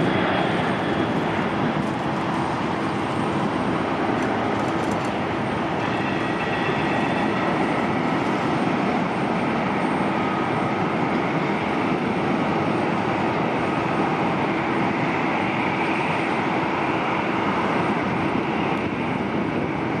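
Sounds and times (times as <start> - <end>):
jet engine rumble: 0.0 - 20.0.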